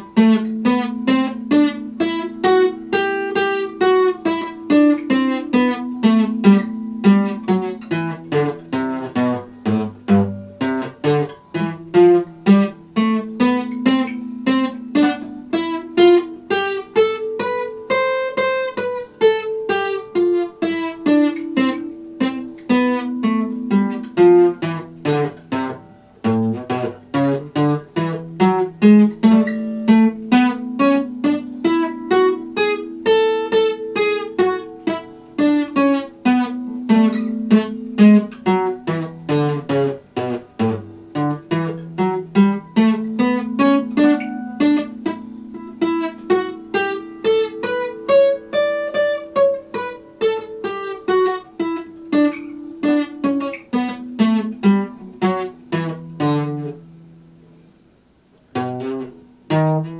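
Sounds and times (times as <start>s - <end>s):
acoustic guitar picked melody: 0.0s - 59.9s.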